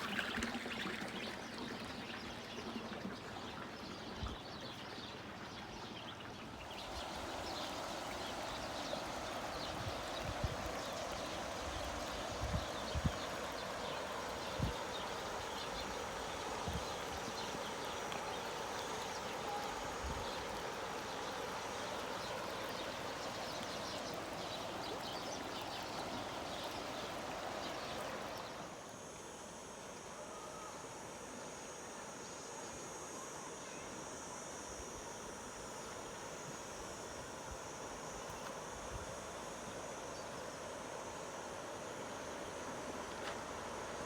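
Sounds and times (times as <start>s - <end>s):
river water flowing: 0.0s - 30.0s, 34.5s - 44.0s.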